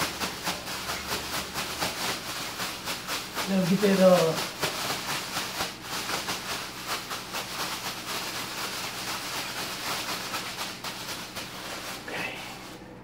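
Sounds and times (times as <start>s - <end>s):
plastic bag rustling: 0.0s - 12.9s.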